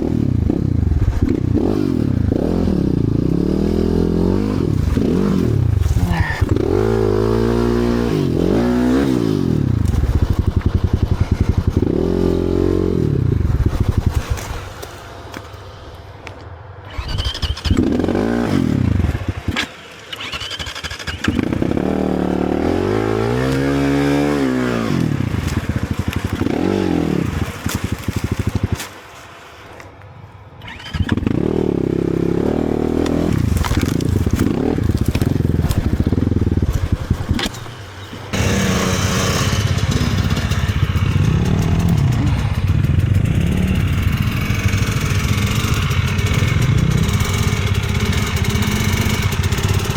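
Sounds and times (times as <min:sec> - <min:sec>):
motorcycle engine revving: 0:00.0 - 0:29.8, 0:30.4 - 0:49.9.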